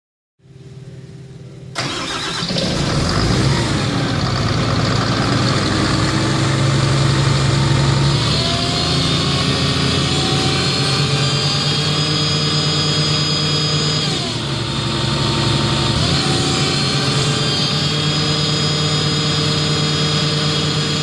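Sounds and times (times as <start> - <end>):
excavator diesel engine running: 1.7 - 21.0.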